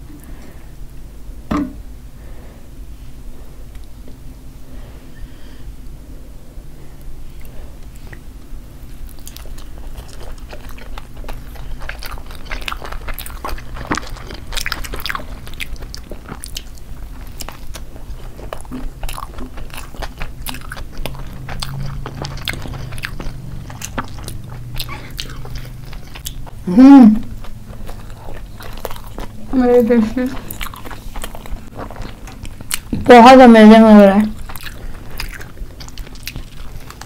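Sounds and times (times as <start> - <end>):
people chewing crunchy pizza: 7.0 - 37.0.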